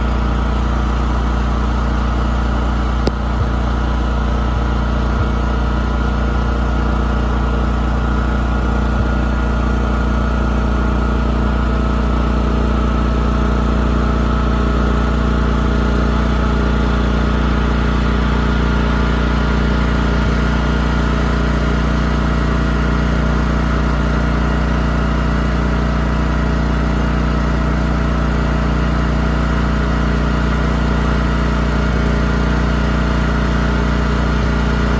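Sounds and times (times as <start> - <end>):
model boat engine running: 0.0 - 34.9.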